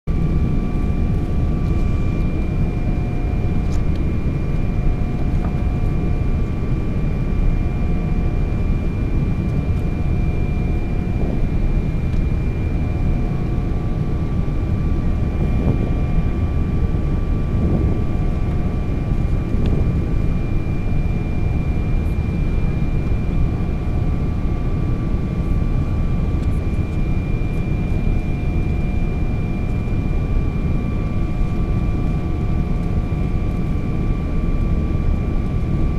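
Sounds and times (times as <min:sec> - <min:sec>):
deep rumble of engines and air: 0:00.1 - 0:35.9
faint steady hums: 0:00.1 - 0:35.9.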